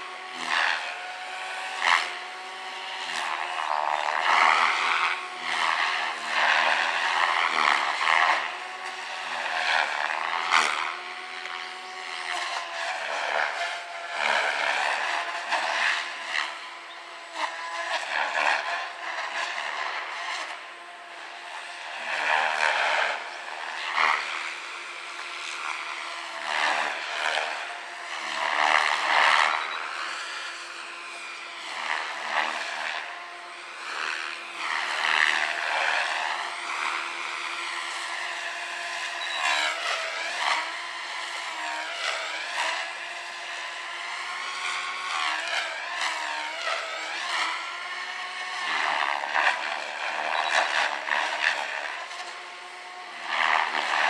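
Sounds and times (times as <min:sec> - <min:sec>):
rc helicopter motor and rotor whine: 0:00.0 - 0:54.0.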